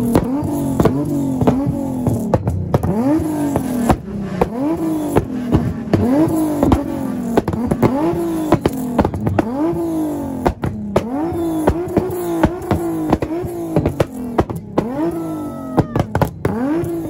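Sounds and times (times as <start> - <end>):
car engine revving: 0.0 - 17.0
exhaust pops and crackles: 0.0 - 17.0.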